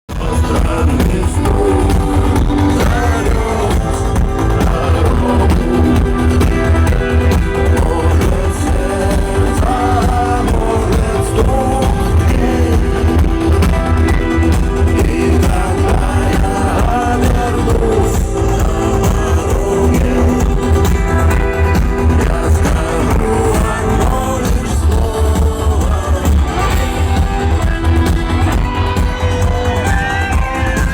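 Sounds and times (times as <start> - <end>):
electronic dance music: 0.1 - 30.9.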